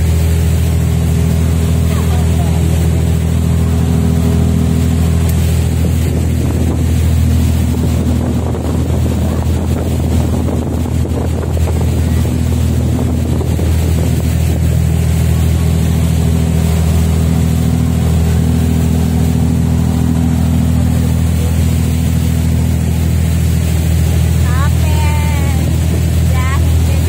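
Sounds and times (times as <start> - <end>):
boat engine drone: 0.0 - 27.0
wake rushing: 0.0 - 27.0
wind buffeting microphone: 0.0 - 27.0.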